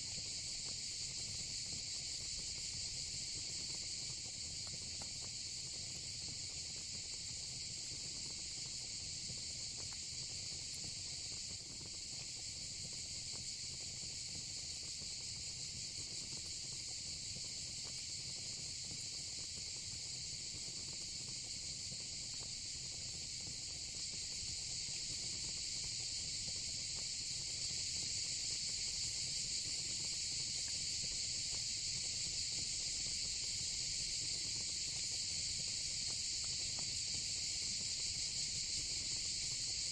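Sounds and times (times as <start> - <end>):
crickets and cicadas chirping: 5.3 - 39.9.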